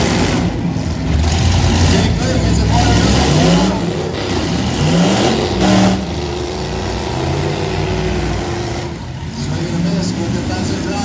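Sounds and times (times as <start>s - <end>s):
engines revving hard: 0.0s - 11.0s.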